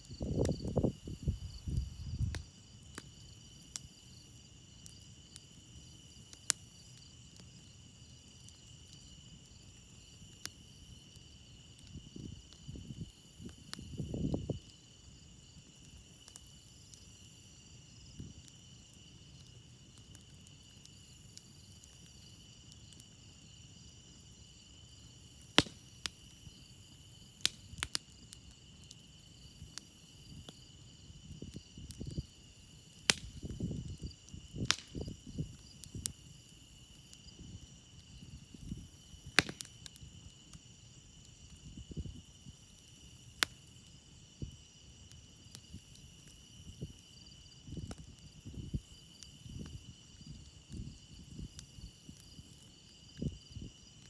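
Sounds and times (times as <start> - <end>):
campfire crackling: 0.0 - 54.0
crickets chirping: 0.0 - 54.0
low rumbles from fire: 0.0 - 54.0
sharp pops from fire: 0.0 - 54.0.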